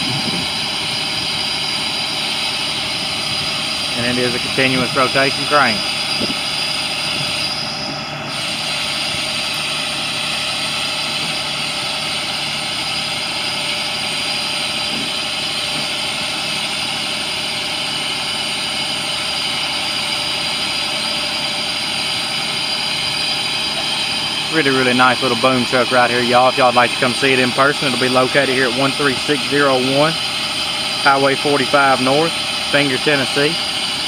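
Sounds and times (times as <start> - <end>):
diesel engine running: 0.0 - 34.0
steady high hydraulic whine: 0.0 - 34.0.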